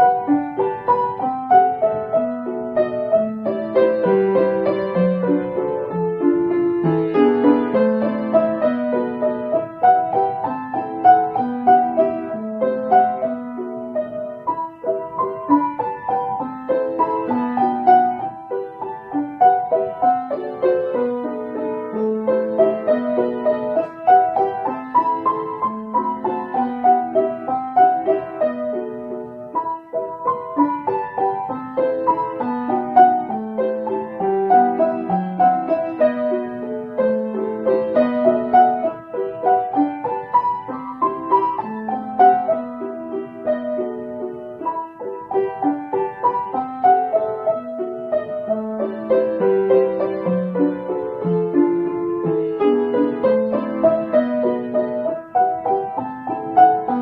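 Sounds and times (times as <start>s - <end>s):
slow solo piano: 0.0s - 57.0s.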